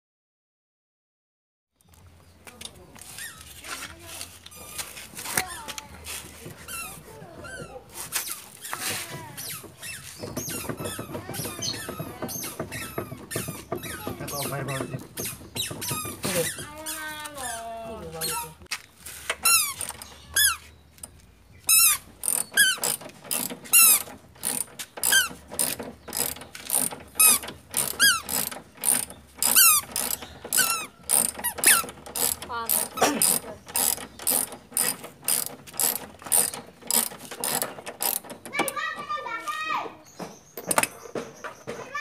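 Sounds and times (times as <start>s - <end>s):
squeaky clicking from car wheel: 4.4s - 18.6s, 19.2s - 39.3s, 40.0s - 42.0s.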